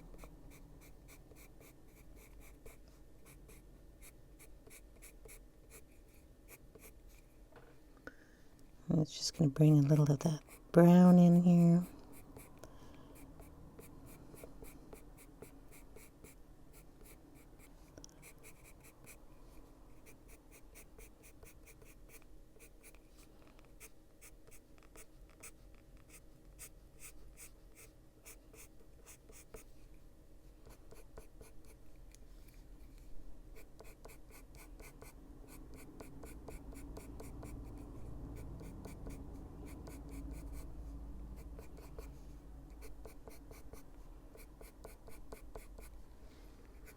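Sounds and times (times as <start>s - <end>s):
pencil scratching on paper: 0.0s - 7.3s, 9.2s - 12.6s, 13.2s - 29.7s, 30.6s - 31.8s, 33.6s - 40.8s, 41.4s - 45.9s.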